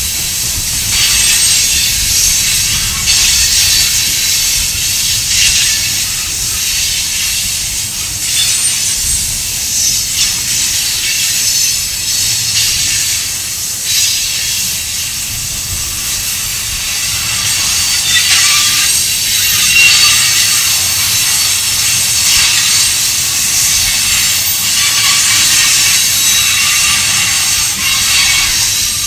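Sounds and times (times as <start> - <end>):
freight train wheels on rails: 0.0 - 29.0
loud hiss: 0.0 - 29.0.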